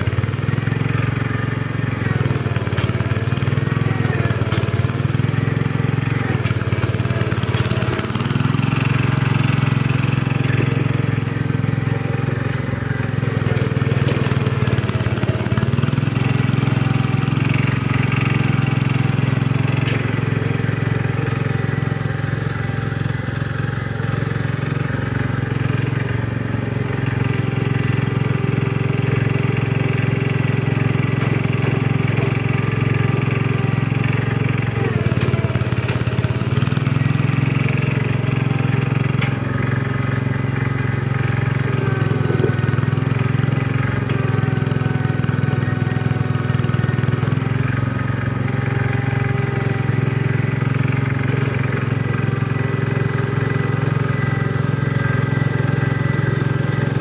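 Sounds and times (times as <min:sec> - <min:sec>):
blade pushing dirt: 0:00.0 - 0:57.0
garden tractor engine running: 0:00.0 - 0:57.0.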